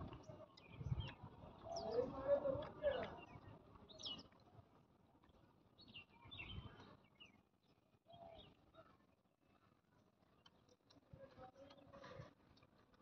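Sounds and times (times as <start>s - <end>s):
small birds chirping: 0.0s - 4.6s, 5.2s - 13.0s.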